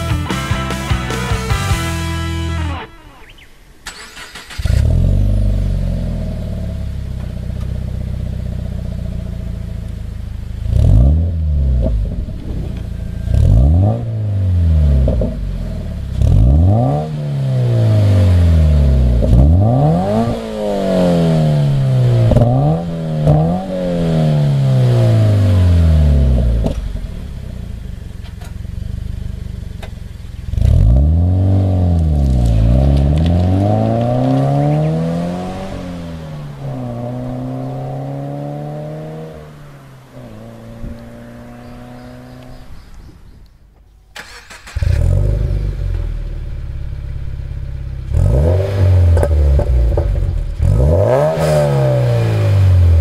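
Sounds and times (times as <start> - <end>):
car accelerating away: 0.0 - 43.0, 44.2 - 53.0
car engine idling and revving: 0.0 - 53.0.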